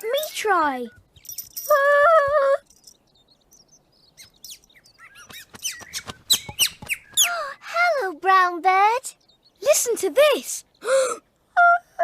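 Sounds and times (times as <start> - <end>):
bird chirping: 0.0 - 11.4.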